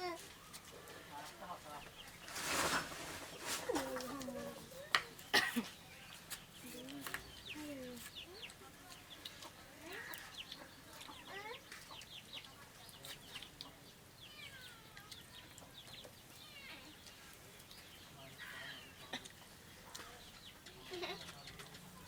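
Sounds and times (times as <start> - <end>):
birds chirping and clucking: 0.0 - 22.0.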